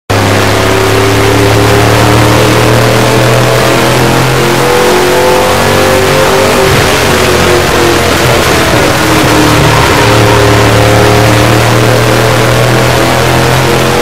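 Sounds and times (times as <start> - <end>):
truck engine at high revs: 0.1 - 14.0.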